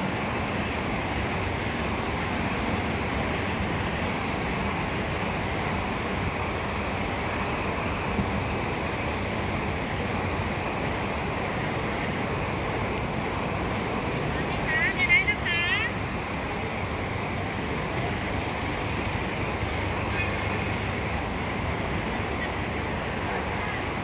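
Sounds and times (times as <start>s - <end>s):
market hall background noise: 0.0s - 24.0s.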